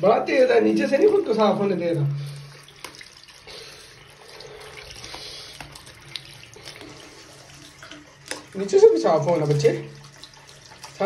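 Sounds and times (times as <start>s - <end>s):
tap water splashing into sink: 0.7s - 3.5s, 4.6s - 11.0s.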